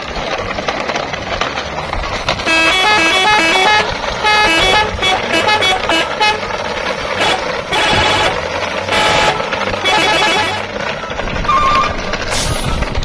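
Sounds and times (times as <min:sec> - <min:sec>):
steady rumbling noise: 0:00.0 - 0:13.0
multi-tone vehicle horn tune: 0:02.4 - 0:12.8.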